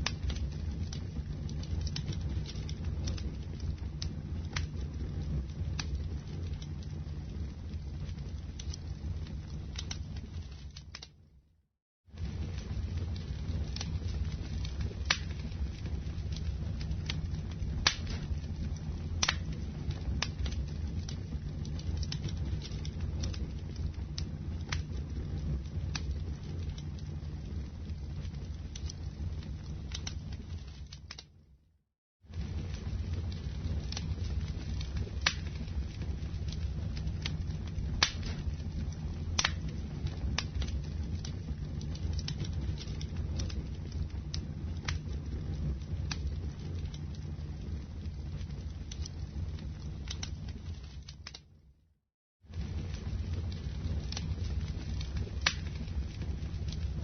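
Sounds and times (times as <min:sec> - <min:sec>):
fire crackling and popping: 0:00.0 - 0:11.4, 0:12.1 - 0:31.6, 0:32.3 - 0:51.8, 0:52.5 - 0:57.0
fire rumbling in fireplace: 0:00.0 - 0:57.0.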